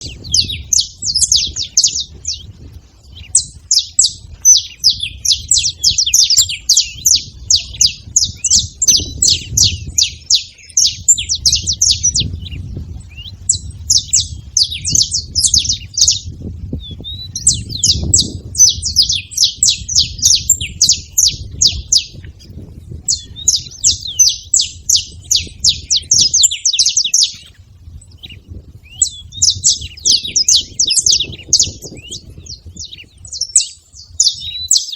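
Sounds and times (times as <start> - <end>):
finch singing: 0.0 - 34.9.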